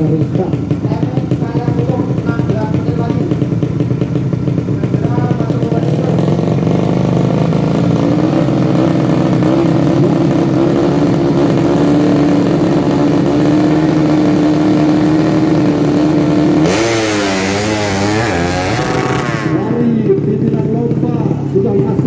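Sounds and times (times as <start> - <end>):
motorcycle engine droning: 0.0 - 22.0.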